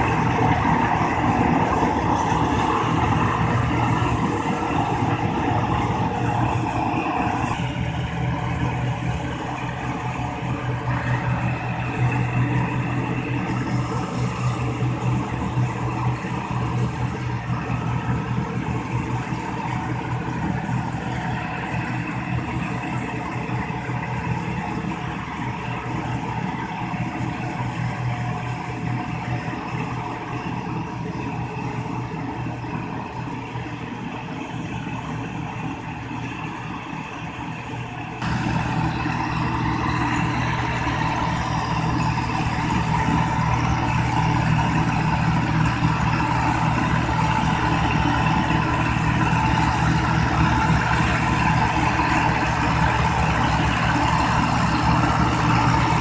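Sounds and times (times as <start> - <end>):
straw chopper working: 0.0 - 56.0
tractor diesel engine running: 0.0 - 56.0.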